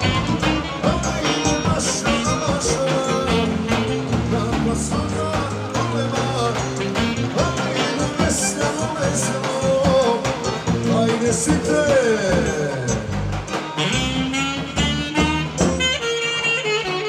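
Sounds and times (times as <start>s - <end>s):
steady drum beat: 0.0s - 16.6s
saxophone melody: 0.0s - 17.0s.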